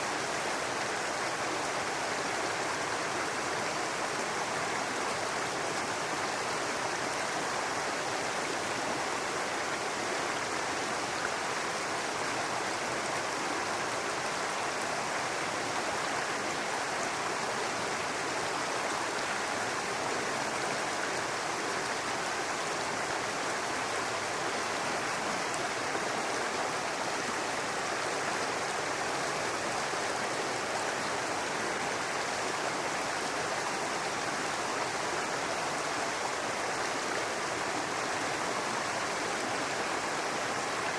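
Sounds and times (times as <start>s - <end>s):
brook babbling over rocks: 0.0s - 40.9s.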